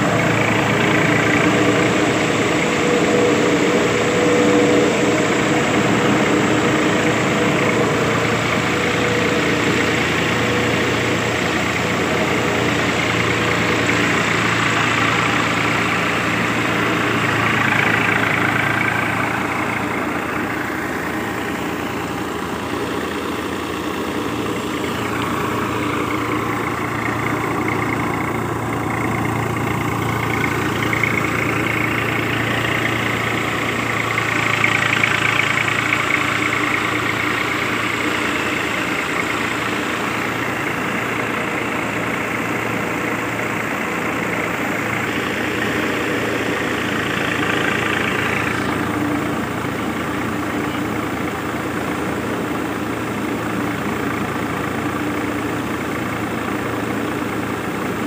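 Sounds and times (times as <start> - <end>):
thresher drum and fan turning: 0.0 - 58.0
tractor diesel engine running: 0.0 - 58.0.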